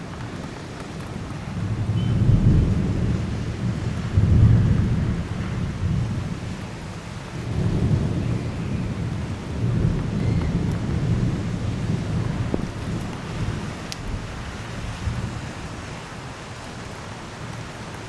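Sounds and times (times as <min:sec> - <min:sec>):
rolling thunder: 0:00.0 - 0:16.0
heavy rain hissing: 0:00.0 - 0:18.0.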